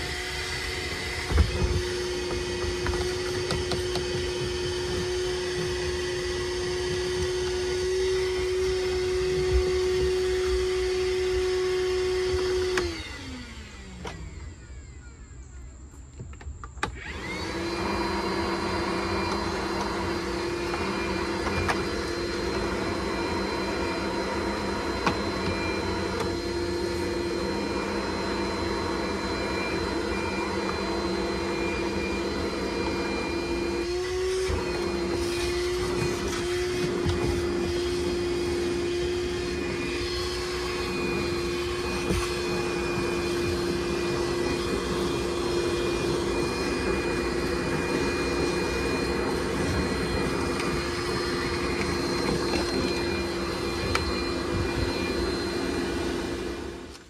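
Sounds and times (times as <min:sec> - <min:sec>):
shop vacuum motor whine: 0:00.0 - 0:57.0.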